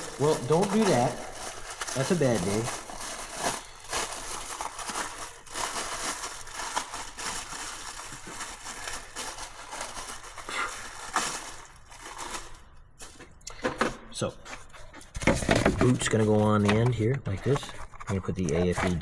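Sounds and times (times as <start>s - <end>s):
rustling and crinkling of parts: 0.0s - 19.0s.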